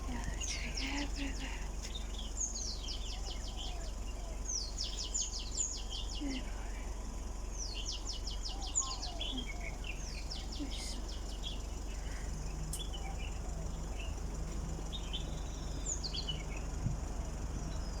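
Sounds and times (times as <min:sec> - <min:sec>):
low background rumble: 0:00.0 - 0:18.0
small birds chirping: 0:00.0 - 0:18.0.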